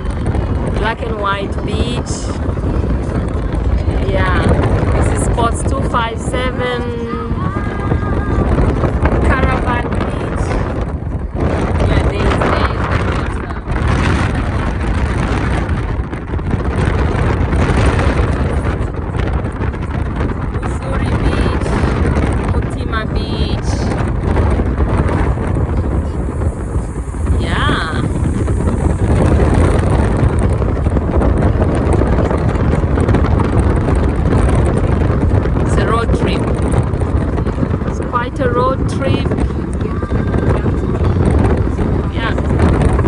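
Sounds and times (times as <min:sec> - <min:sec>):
moving car noise: 0:00.0 - 0:43.0
wind buffeting microphone: 0:00.0 - 0:43.0.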